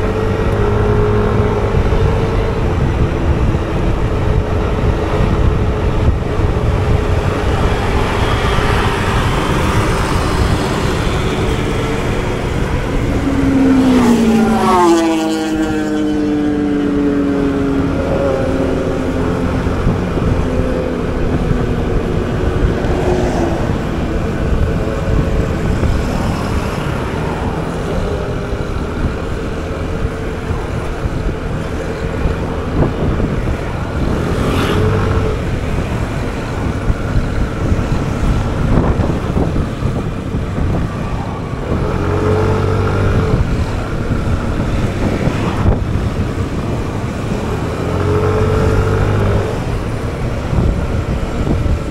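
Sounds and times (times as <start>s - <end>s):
scooter engine running: 0.0s - 51.9s
wind noise on microphone: 0.0s - 51.9s.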